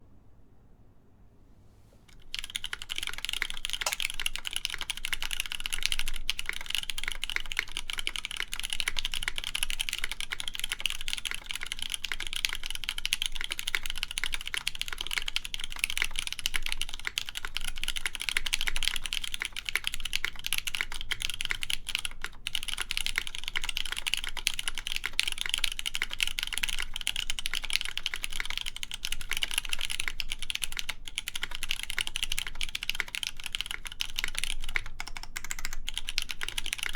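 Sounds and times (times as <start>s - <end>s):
fast typing on mechanical keyboard: 2.1s - 36.9s.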